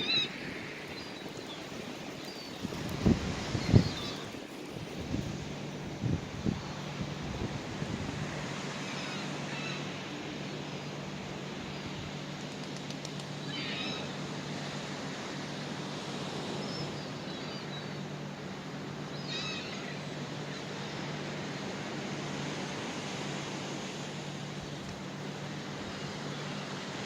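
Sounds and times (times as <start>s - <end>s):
sea surf: 0.0s - 27.0s
wind: 0.0s - 27.0s.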